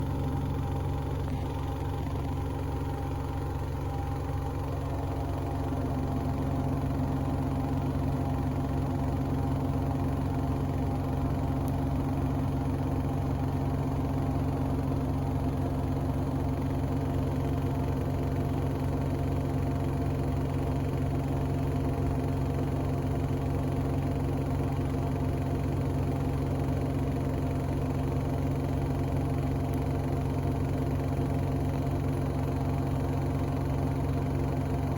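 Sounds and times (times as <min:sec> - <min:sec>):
washing machine spin hum: 0:00.0 - 0:34.9.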